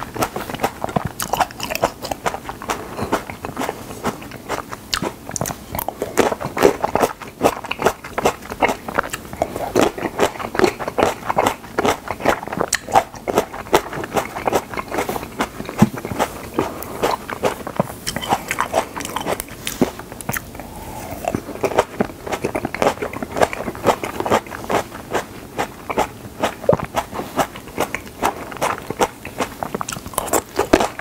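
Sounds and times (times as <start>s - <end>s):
tomatoes being bitten and chewed: 0.0s - 31.0s.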